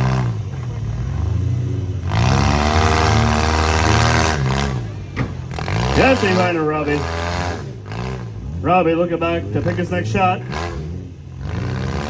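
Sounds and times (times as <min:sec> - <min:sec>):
van engines revving: 0:00.0 - 0:12.0.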